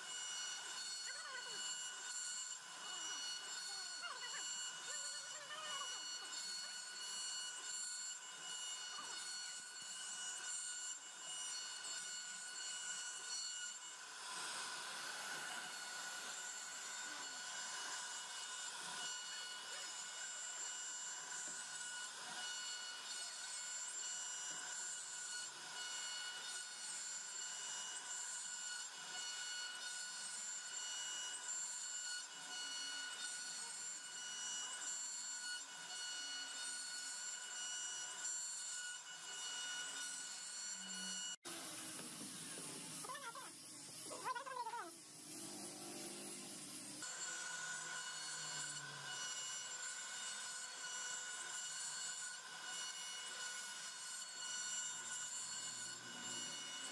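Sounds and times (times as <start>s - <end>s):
bit cutting through wood: 0.0s - 56.9s
router spindle whine: 0.0s - 56.9s.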